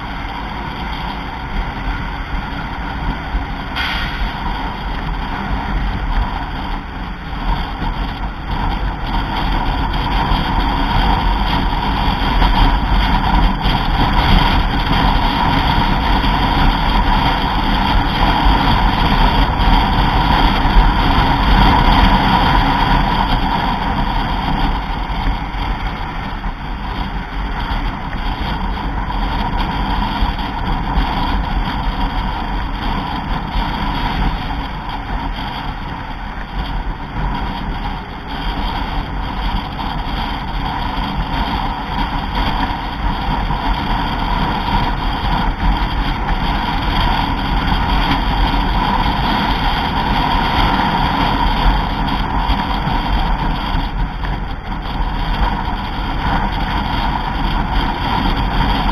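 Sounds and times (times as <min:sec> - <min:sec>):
vehicle engine and tyre noise: 0:00.0 - 0:58.9
wind rushing over microphone: 0:00.0 - 0:58.9.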